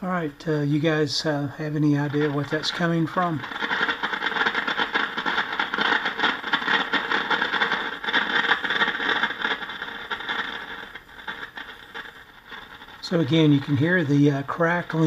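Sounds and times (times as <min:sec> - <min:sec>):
radio static crackling: 0:00.0 - 0:15.0.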